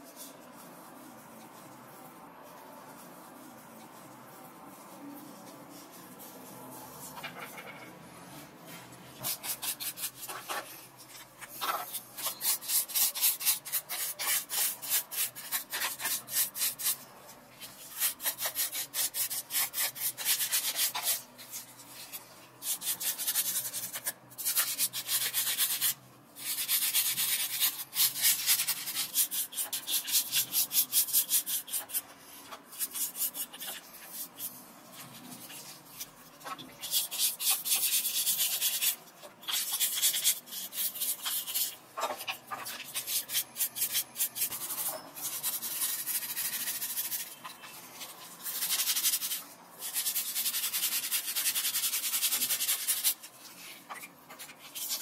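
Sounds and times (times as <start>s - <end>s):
toothbrush bristles scratching: 0.0s - 7.9s, 8.6s - 55.0s.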